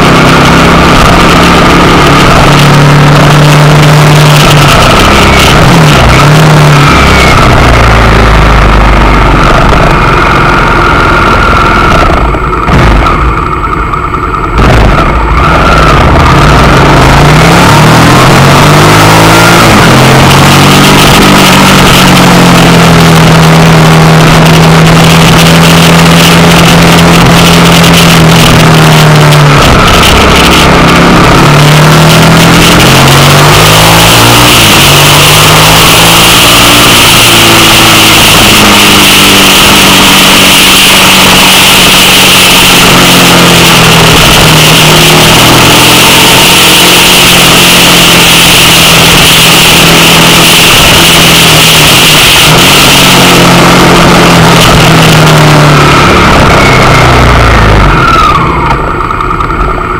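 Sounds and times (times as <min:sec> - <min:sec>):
motorcycle engine running loud: 0:00.0 - 0:59.9.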